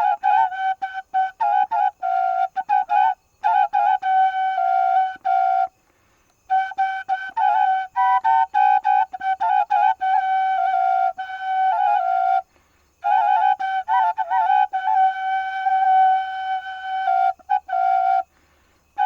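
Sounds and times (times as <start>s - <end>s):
solo flute melody: 0.0s - 5.8s, 6.4s - 19.0s.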